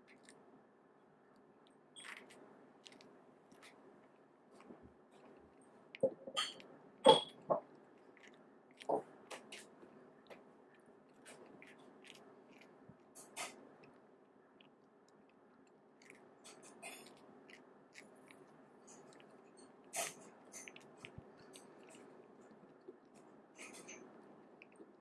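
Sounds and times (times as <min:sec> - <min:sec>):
cat crunching snacks: 0:02.0 - 0:25.0.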